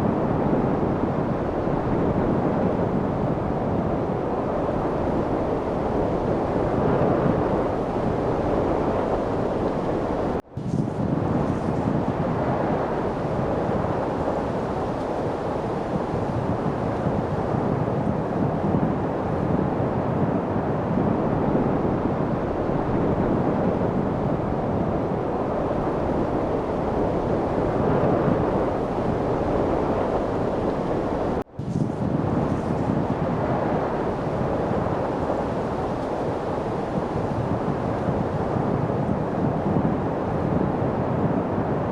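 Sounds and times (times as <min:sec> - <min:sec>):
wind noise: 0:00.0 - 0:41.9.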